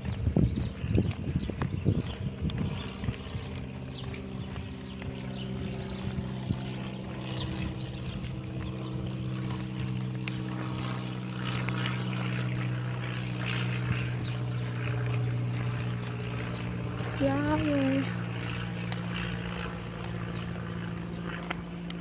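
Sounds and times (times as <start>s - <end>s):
steady engine drone: 0.0s - 22.0s.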